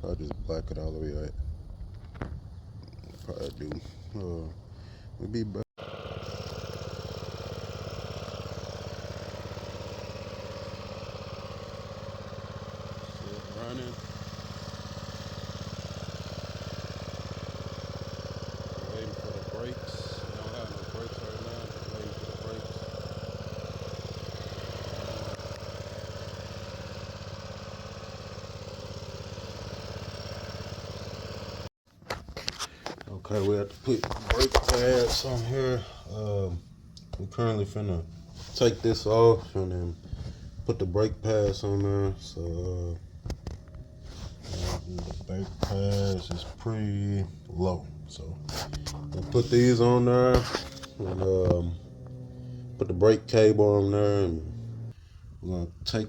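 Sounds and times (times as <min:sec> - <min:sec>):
mini bike engine idling: 0:05.8 - 0:31.7, 0:32.5 - 0:55.9.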